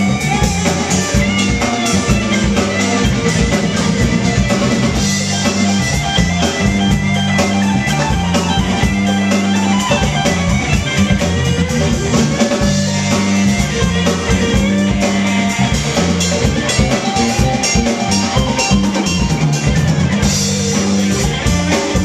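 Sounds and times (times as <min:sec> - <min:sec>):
electric bass line: 0:00.0 - 0:22.0
electric guitar: 0:00.0 - 0:22.0
steady drum beat: 0:00.0 - 0:22.0.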